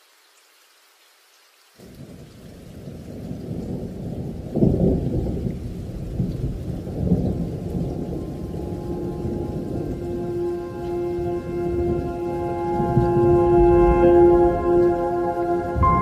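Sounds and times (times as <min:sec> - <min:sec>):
rain: 0:00.0 - 0:16.0
rumbling thunder: 0:01.9 - 0:16.0.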